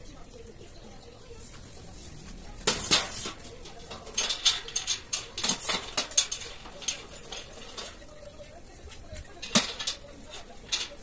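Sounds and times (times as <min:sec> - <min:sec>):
steel frame parts clicking: 0:01.6 - 0:11.0.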